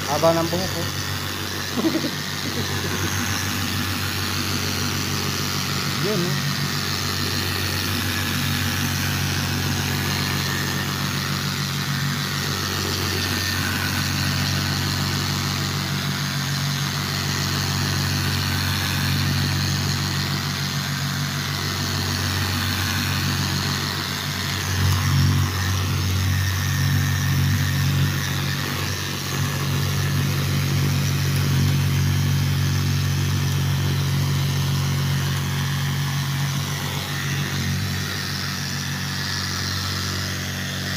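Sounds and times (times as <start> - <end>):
angle polisher grinding stone: 0.0 - 40.9.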